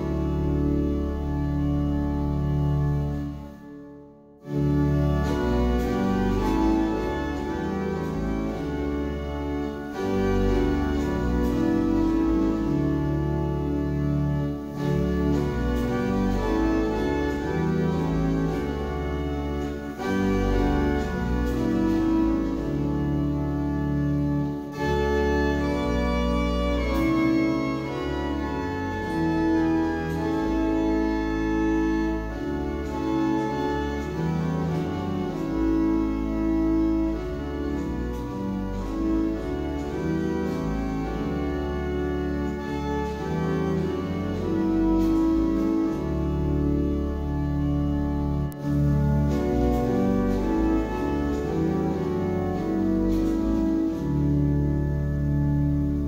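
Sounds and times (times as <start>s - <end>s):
organ playing a hymn: 0.0s - 56.0s.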